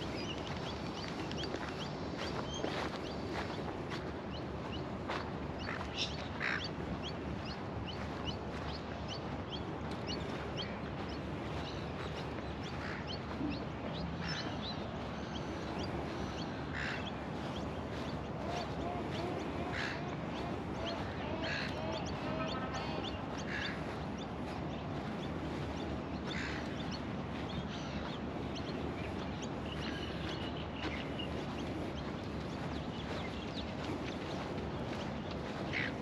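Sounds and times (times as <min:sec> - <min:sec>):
steady outdoor hiss: 0:00.0 - 0:36.0
lower wavering bird calls: 0:05.6 - 0:36.0.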